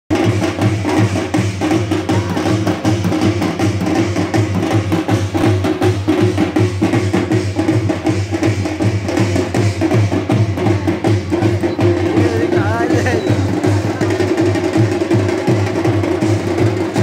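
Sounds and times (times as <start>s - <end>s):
drums beaten hard: 0.1s - 17.0s.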